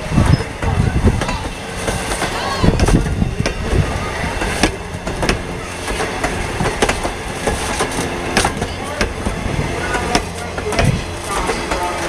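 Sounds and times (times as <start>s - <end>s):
low rumble of train: 0.0s - 12.0s
train wheels clicking over rail joints: 0.0s - 12.0s.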